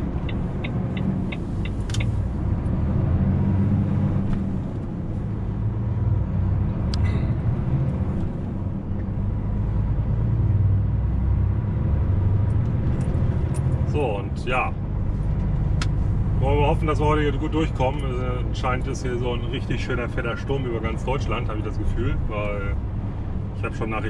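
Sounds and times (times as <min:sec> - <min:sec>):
truck diesel engine rumble: 0:00.0 - 0:24.0.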